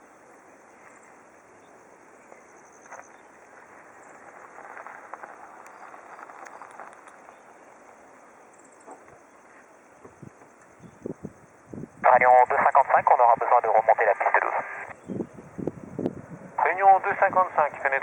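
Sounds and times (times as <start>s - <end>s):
distant jet airliner engines: 0.0s - 18.0s
insects chirping: 0.0s - 18.0s.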